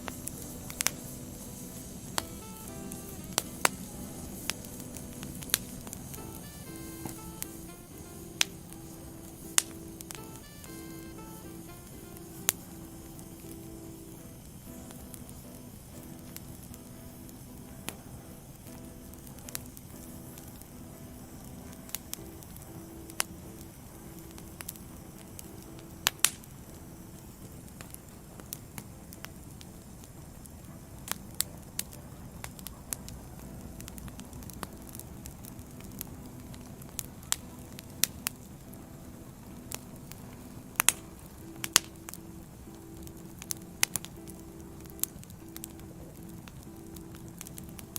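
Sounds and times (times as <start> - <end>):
burning logs popping and cracking: 0.0 - 18.1, 18.7 - 47.9
wood fire hissing: 0.0 - 47.9.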